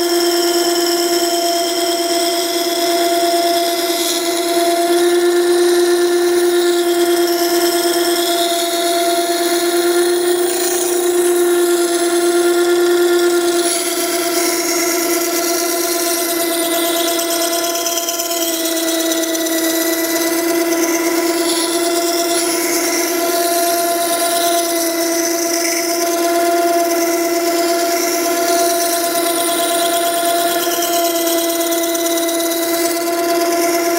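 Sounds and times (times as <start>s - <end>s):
sharpener motor whine: 0.0s - 33.9s
wheel grinding steel: 2.8s - 33.9s.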